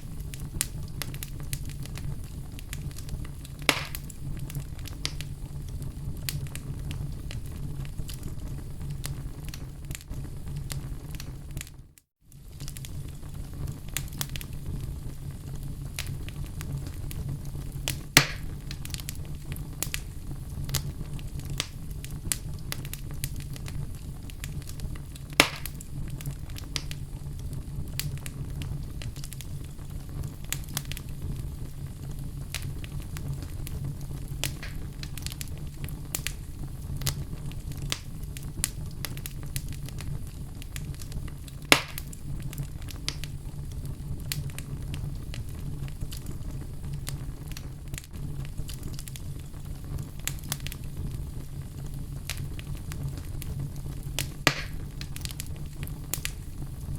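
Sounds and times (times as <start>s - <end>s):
fire crackling in fireplace: 0.0s - 56.9s
loud fire pops: 0.0s - 56.9s.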